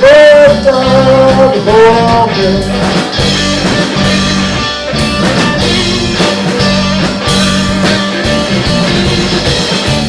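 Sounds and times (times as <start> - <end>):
bass guitar: 0.0 - 10.0
drum kit beat: 0.0 - 10.0
electric guitar: 0.0 - 10.0.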